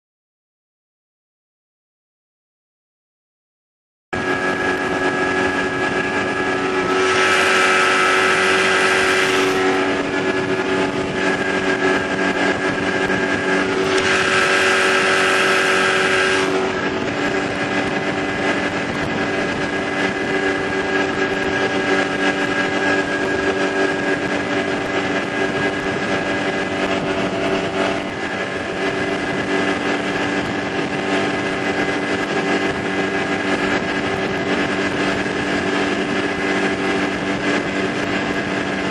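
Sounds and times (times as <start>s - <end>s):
boat motor droning: 4.2s - 38.9s.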